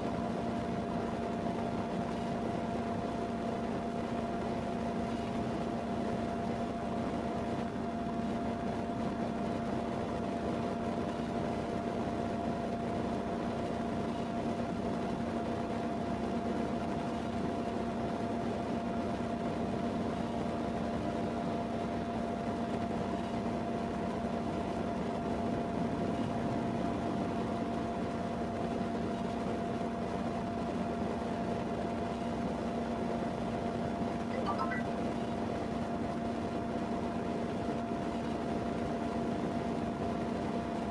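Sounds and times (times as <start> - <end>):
ventilation fan hum: 0.0 - 40.9.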